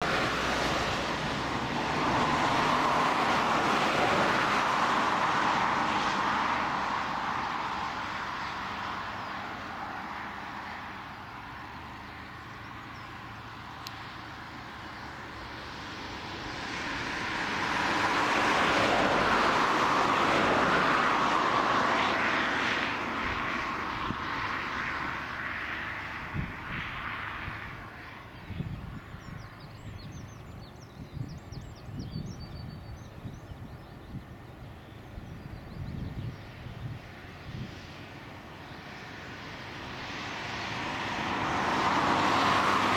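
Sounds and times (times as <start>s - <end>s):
distant jet engines roaring: 0.0s - 42.9s.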